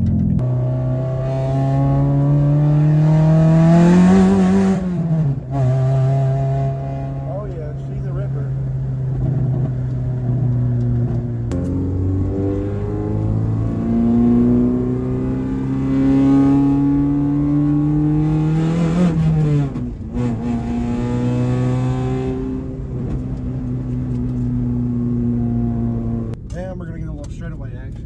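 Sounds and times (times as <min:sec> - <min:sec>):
car engine revving under load: 0:00.0 - 0:26.5.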